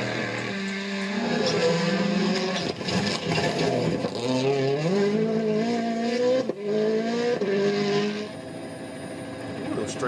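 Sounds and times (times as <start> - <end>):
rally car engine at high revs: 0.0 - 10.0.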